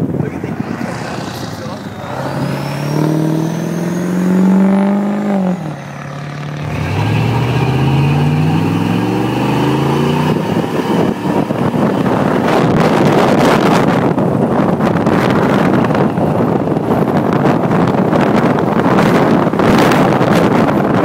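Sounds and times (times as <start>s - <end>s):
diesel pickup accelerating hard: 0.0s - 21.0s
wind buffeting microphone: 0.0s - 21.0s.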